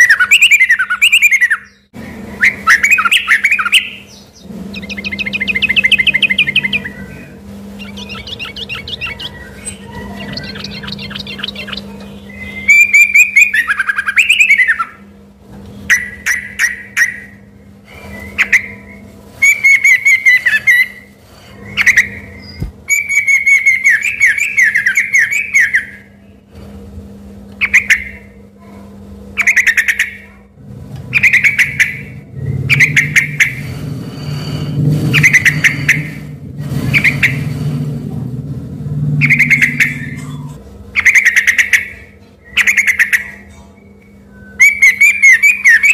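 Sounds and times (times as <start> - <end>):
bulbul singing loud phrases: 0.0 - 15.1, 15.8 - 26.4, 27.6 - 28.4, 29.4 - 30.4, 31.1 - 33.7, 39.2 - 45.9.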